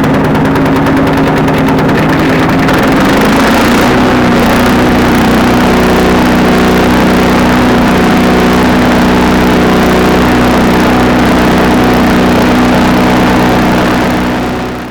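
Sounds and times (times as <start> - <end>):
wood chipper engine running: 0.0 - 14.9.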